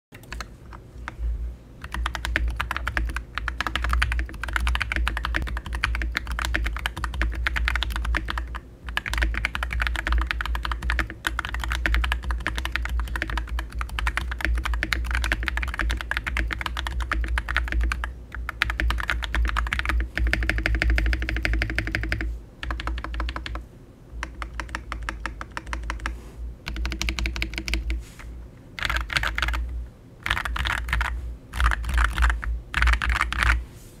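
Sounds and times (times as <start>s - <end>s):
mechanical keyboard typing: 0.2s - 0.5s, 1.8s - 23.6s, 24.2s - 28.0s, 28.8s - 33.6s.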